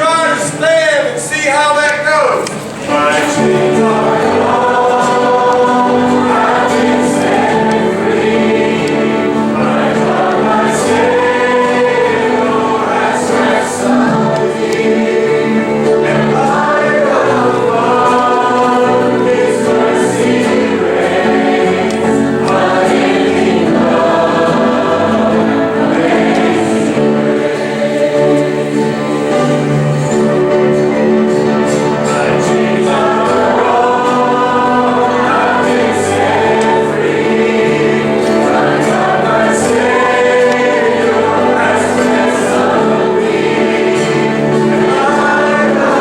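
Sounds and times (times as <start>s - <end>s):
choir singing gospel: 0.0s - 46.0s.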